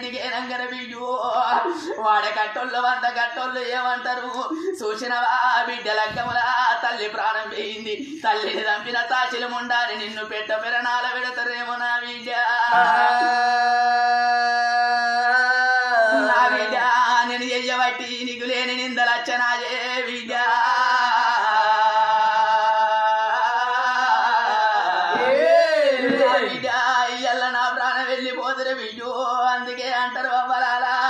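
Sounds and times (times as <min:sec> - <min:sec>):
person singing a lament: 0:00.0 - 0:31.0.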